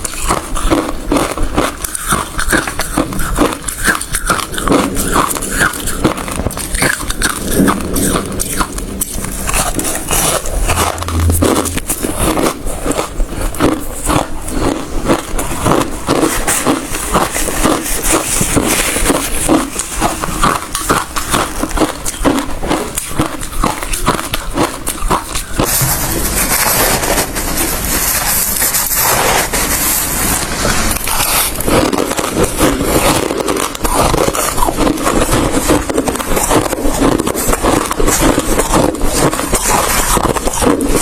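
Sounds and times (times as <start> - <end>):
ice being chewed crunching: 0.0 - 41.0.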